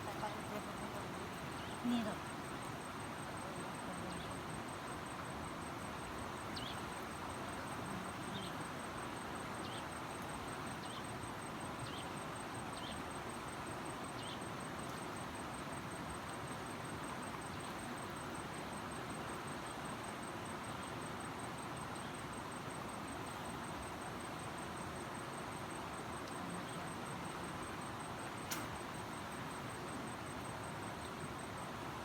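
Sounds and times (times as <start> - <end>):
outdoor background hiss: 0.0 - 32.0
thin high pulsing whine: 0.0 - 32.0.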